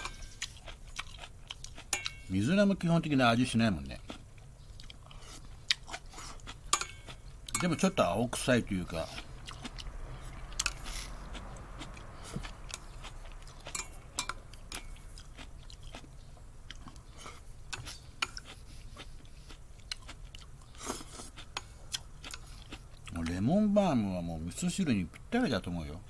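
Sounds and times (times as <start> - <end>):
person chewing: 0.0 - 2.3, 3.9 - 8.0, 8.8 - 23.4.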